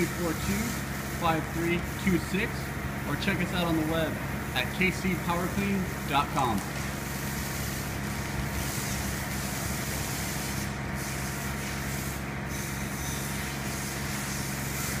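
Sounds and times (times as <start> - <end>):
pressure washer engine hum: 0.0 - 15.0
water jet hissing: 0.0 - 15.0.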